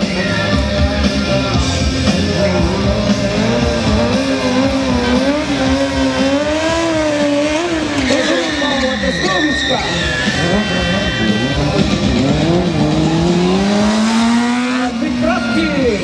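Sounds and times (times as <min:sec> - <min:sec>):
motorcycle engine revving: 0:00.0 - 0:16.0
music: 0:00.0 - 0:16.0.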